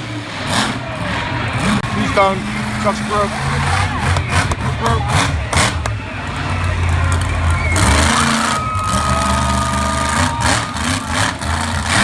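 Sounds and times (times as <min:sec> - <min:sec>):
monster truck engine rumbling: 0:00.0 - 0:12.0.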